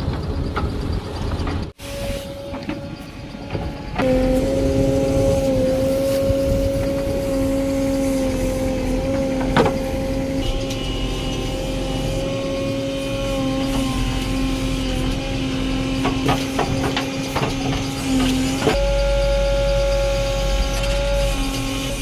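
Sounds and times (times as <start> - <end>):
diesel machinery running with whine: 0.0 - 22.0.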